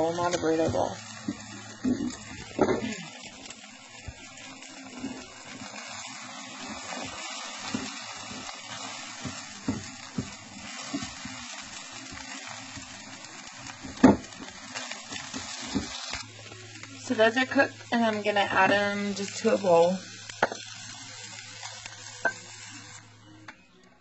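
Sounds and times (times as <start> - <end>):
eggs sizzling in grease: 0.0 - 23.6.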